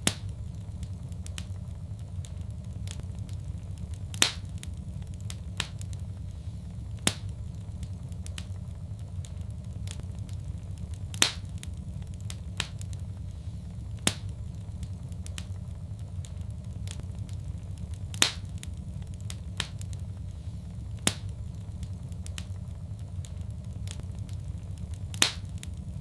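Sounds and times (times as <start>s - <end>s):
loud sharp fire pops: 0.0s - 26.0s
low rumble of burning: 0.0s - 26.0s
wood fire crackling: 0.0s - 26.0s.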